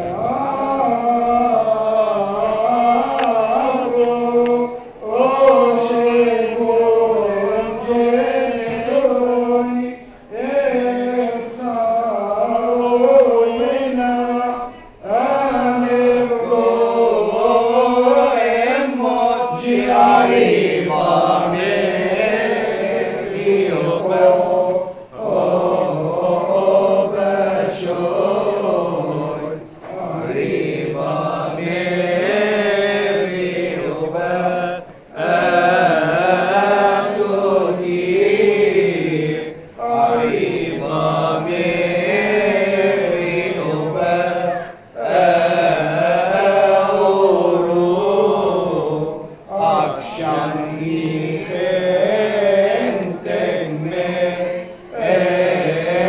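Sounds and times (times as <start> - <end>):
voices chanting a hymn in unison: 0.0 - 56.0.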